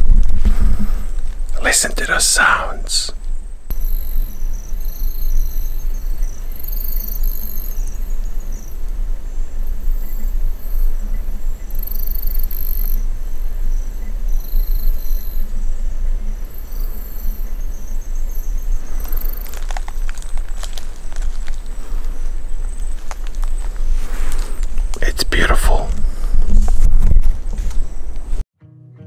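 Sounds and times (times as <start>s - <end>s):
insects chirping: 1.1s - 26.5s.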